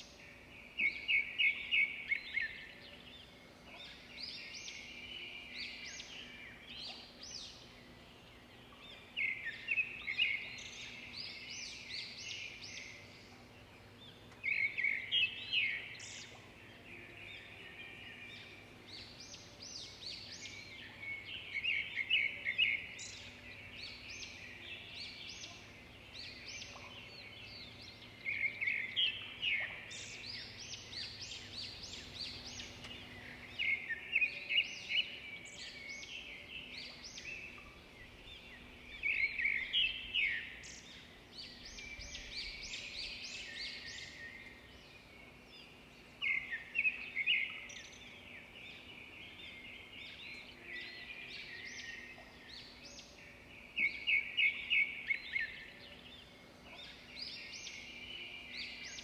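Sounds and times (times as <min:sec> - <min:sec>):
songbirds twittering: 0:00.0 - 0:59.0.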